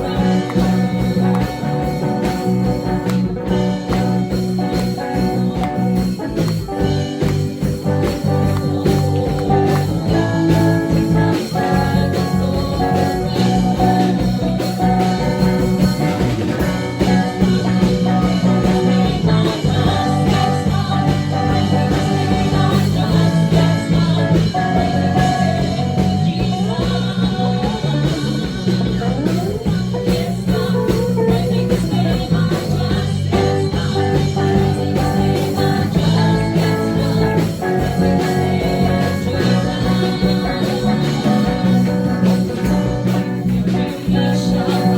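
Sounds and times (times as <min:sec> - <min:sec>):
band playing worship music: 0:00.0 - 0:44.9
guitar: 0:00.0 - 0:44.9
person singing: 0:00.0 - 0:44.9.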